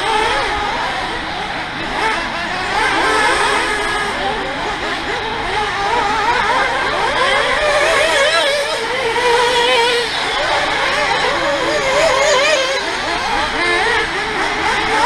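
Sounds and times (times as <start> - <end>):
radio-controlled car motors: 0.0 - 15.0.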